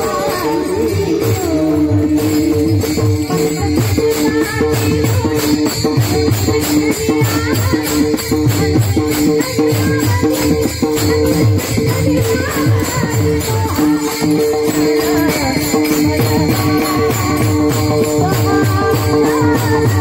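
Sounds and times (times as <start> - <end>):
hand cymbals clashing: 0.0 - 20.0
harmonium drone: 0.0 - 20.0.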